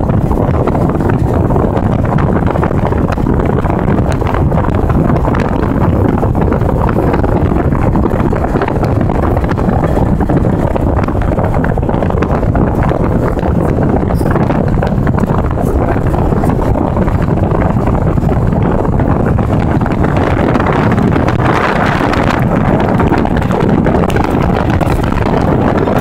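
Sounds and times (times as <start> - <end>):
vehicle rumble at speed: 0.0 - 26.0
wind buffeting microphone: 0.0 - 26.0.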